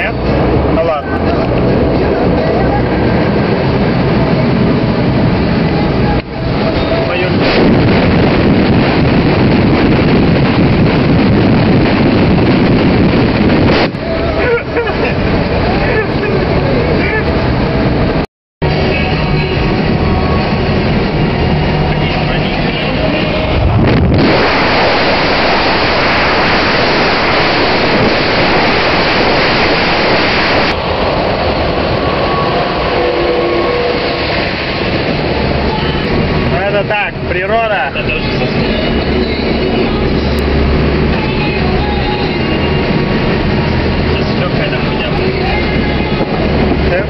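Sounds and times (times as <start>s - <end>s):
car road noise: 0.0s - 47.0s
wind rushing over microphone: 0.0s - 47.0s.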